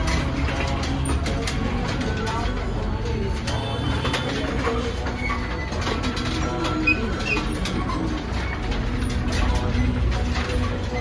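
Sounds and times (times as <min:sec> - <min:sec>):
prayer wheels rumbling: 0:00.0 - 0:11.0.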